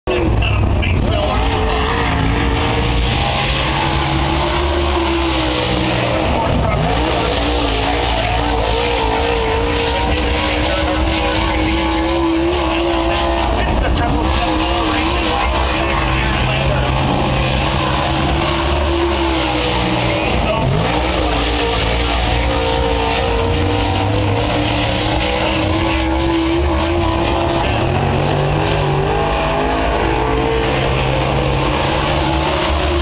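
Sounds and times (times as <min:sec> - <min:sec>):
race car engine: 0:00.0 - 0:33.0.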